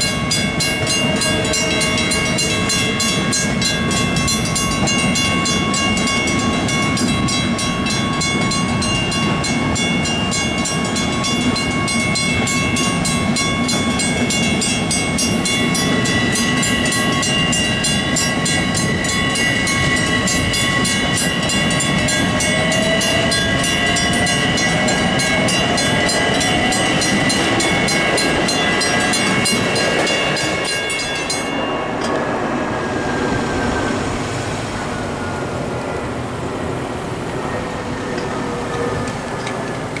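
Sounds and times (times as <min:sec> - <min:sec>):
crossing bells ringing rapidly: 0:00.0 - 0:32.9
passing traffic: 0:00.0 - 0:40.0
train rumble and wheel noise: 0:00.0 - 0:40.0.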